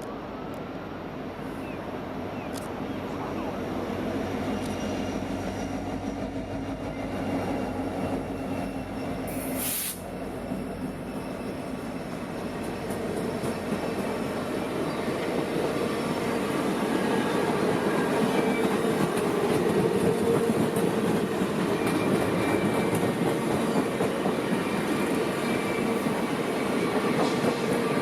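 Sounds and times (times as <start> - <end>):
train wheels rumbling on rails: 2.7 - 28.0.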